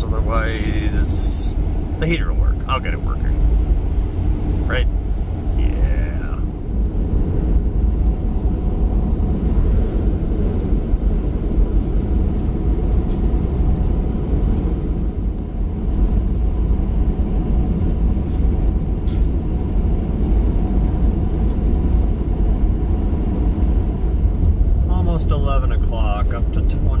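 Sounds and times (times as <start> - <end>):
truck engine and tyre noise: 0.0 - 27.0.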